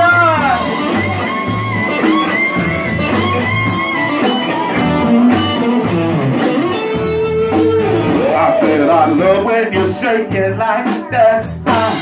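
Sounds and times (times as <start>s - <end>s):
electric guitar: 0.0s - 12.0s
live band playing dance music: 0.0s - 12.0s.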